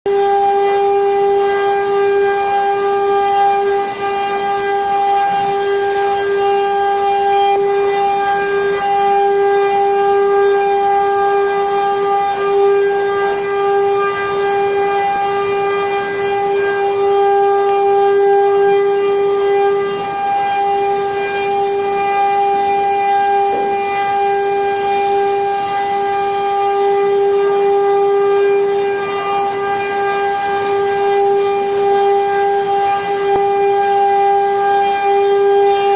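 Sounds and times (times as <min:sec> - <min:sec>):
machine spindle motor whining: 0:00.1 - 0:35.9.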